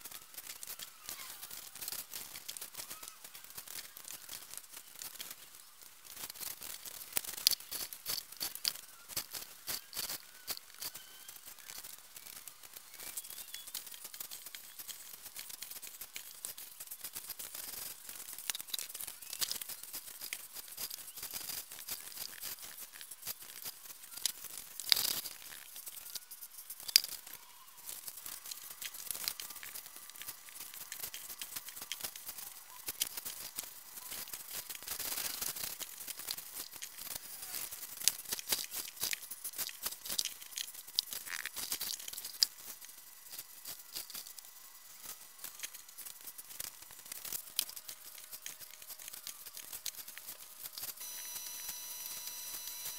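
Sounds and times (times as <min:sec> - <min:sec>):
scattered clicks: 0:00.0 - 0:52.9.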